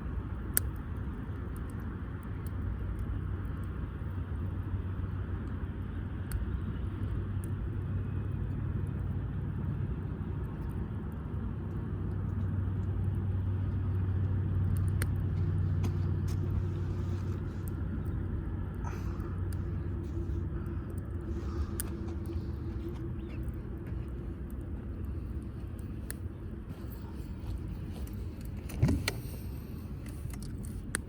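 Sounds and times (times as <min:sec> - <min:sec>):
faint wood fire crackles: 0:00.0 - 0:31.0
low rumble: 0:02.6 - 0:31.0.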